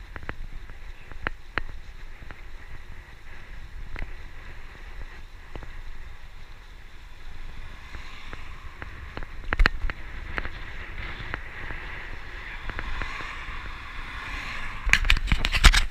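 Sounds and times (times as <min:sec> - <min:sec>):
bike clicks and knocks: 0:00.0 - 0:02.6, 0:05.0 - 0:14.2, 0:14.9 - 0:15.9
road hiss: 0:00.0 - 0:15.9
wind buffeting microphone: 0:00.0 - 0:15.9.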